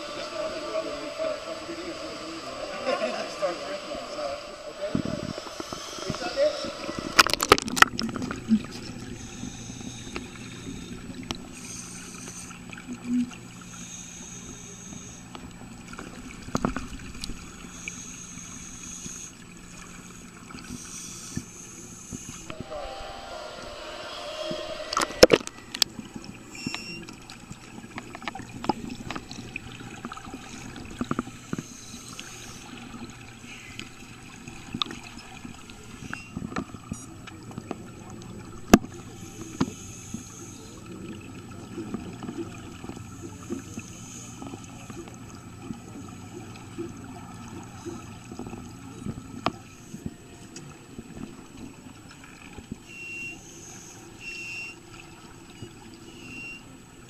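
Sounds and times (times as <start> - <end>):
underwater bubbles gurgling: 0.0 - 22.8, 24.5 - 57.0
steady low hum: 0.0 - 57.0.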